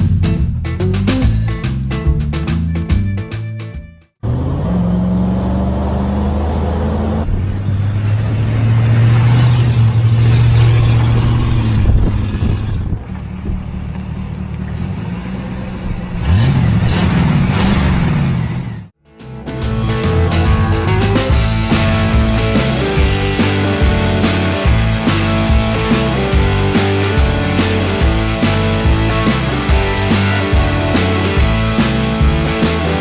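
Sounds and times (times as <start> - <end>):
car engine running and revving: 4.2 - 19.0, 19.6 - 33.0.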